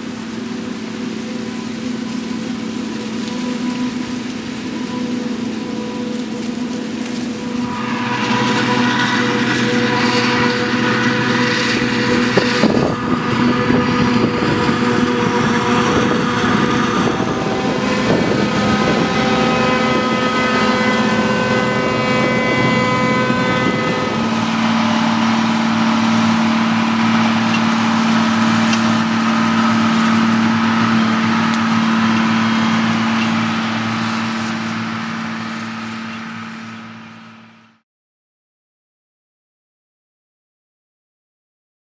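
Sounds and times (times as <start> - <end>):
forage harvester drone and whine: 0.0 - 37.8.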